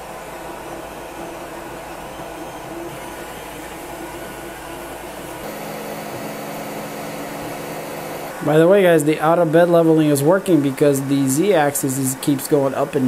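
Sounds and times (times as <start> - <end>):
printer fans and motors whirring: 0.0 - 13.0.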